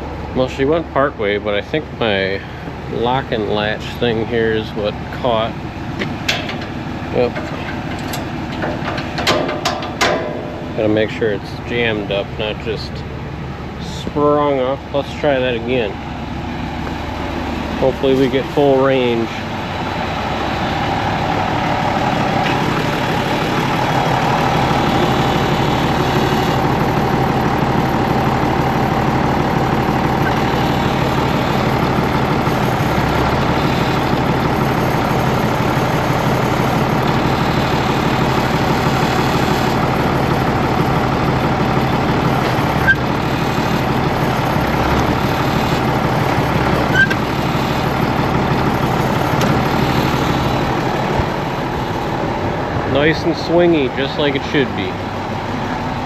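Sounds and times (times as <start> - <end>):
tractor engine running: 0.0 - 56.0
hydraulics moving: 4.6 - 15.0, 15.6 - 54.2.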